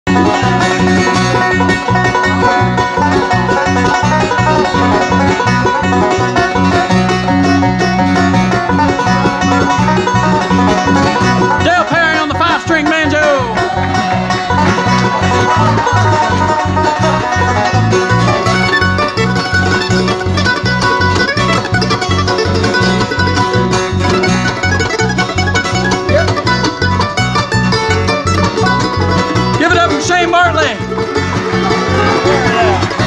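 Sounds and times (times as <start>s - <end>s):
bluegrass band playing: 0.1s - 33.0s.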